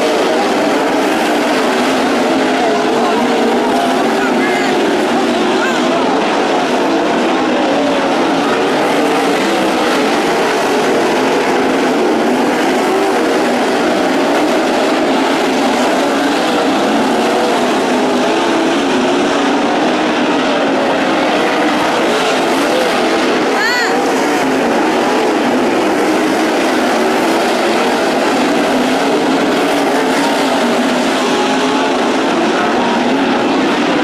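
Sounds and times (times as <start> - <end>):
race car engines roaring: 0.0 - 34.0.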